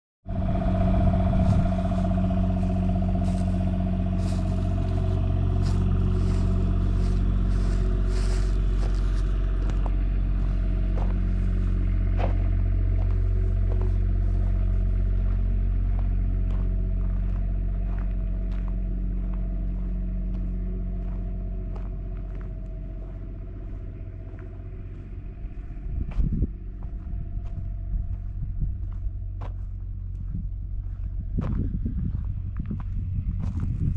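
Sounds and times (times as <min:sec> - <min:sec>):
generator humming: 0:00.2 - 0:33.9
footsteps on gravel: 0:01.2 - 0:33.9.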